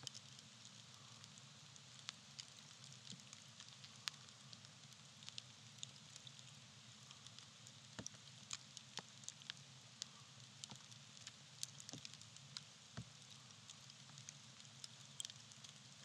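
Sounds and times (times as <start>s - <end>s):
campfire crackling and popping: 0.0s - 16.0s
soft fire hiss: 0.0s - 16.0s.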